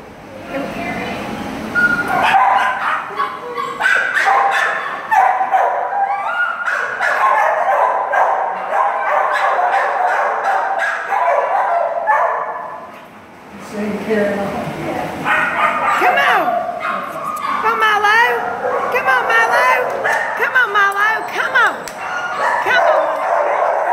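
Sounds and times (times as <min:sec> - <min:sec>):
dogs barking and yipping: 0:01.8 - 0:13.2, 0:15.2 - 0:23.9.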